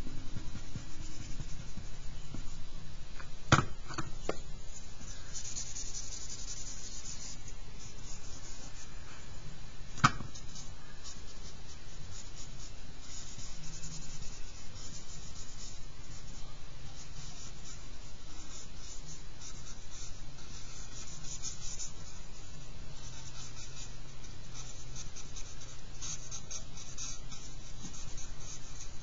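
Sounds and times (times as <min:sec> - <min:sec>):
charcoal scratching on paper: 0:00.0 - 0:03.3, 0:03.9 - 0:09.3, 0:10.0 - 0:29.0.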